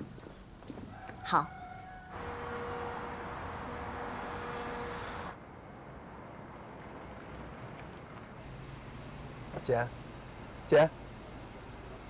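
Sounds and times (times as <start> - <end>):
distant traffic: 0.0 - 12.0.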